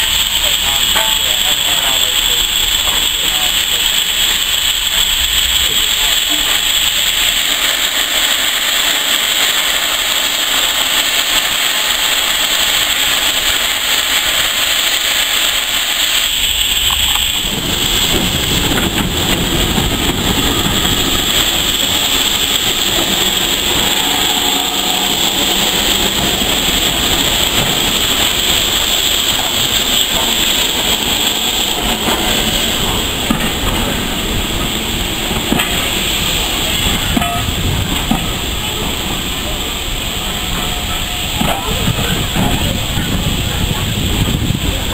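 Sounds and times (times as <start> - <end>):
steam hissing: 0.0 - 44.9
wheels rumbling on rail: 0.0 - 44.9.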